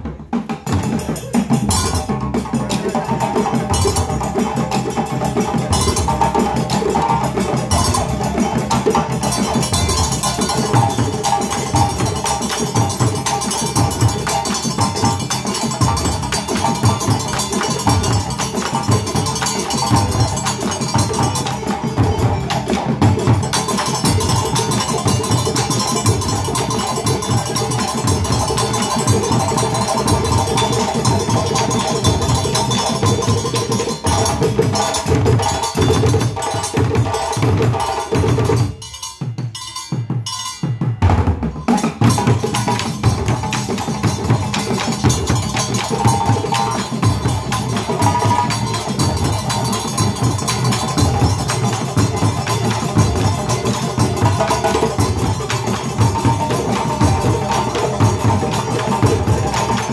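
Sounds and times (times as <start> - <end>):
hand drums and bass drums playing: 0.0 - 59.9.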